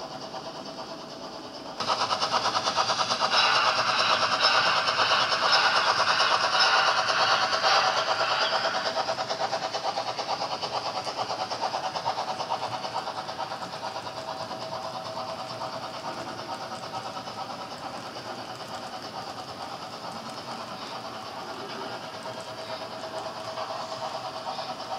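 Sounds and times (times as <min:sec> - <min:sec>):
model train running on track: 0:00.0 - 0:24.9.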